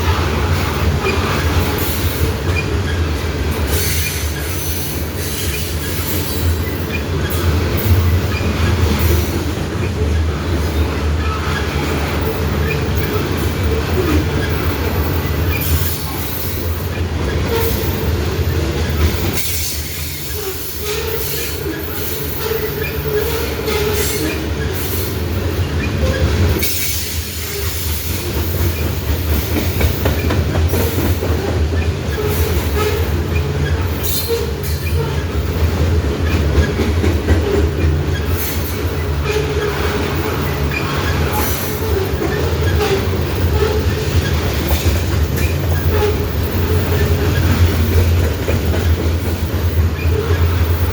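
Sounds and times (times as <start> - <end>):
clacks over rail joints: 0.0 - 50.9
train wheel and rail rumble: 0.0 - 50.9.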